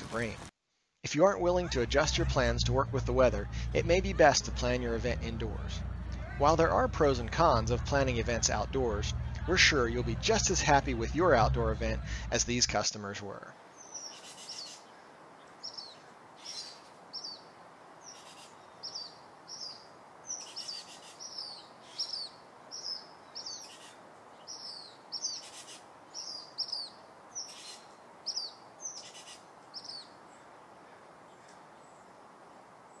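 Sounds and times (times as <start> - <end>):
steady background hiss: 1.1 - 33.0
birds chirping: 1.3 - 33.0.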